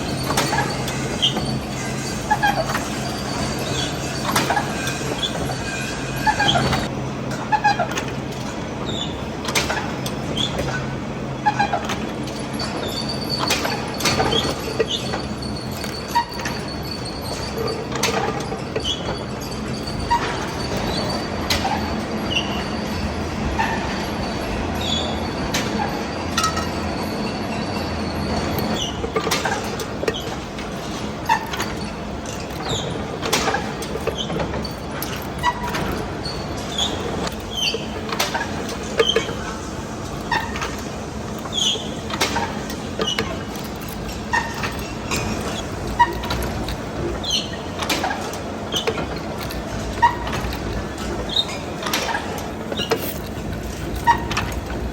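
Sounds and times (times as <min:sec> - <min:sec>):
workshop machinery humming: 0:00.0 - 0:54.9.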